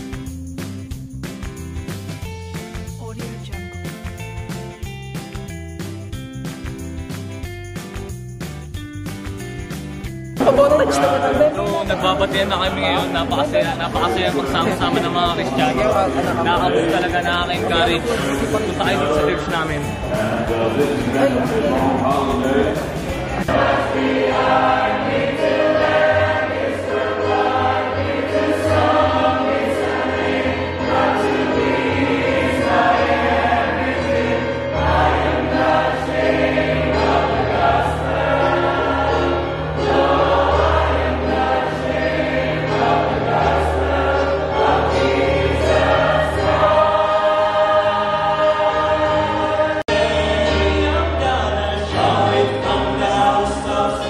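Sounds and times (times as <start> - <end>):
instrumental accompaniment: 0.0 - 54.0
church choir singing gospel: 10.4 - 54.0.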